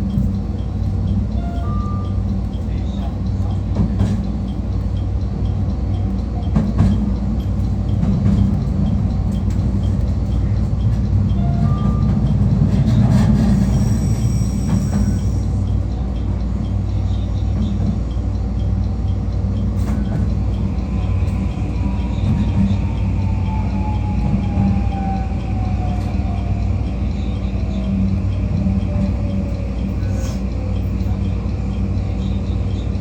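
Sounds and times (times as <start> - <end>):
train rumble and hum: 0.0 - 33.0.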